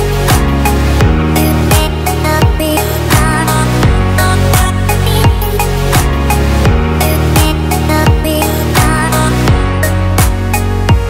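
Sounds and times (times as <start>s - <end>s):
held bass line: 0.0s - 11.0s
deep kick drum: 0.3s - 11.0s.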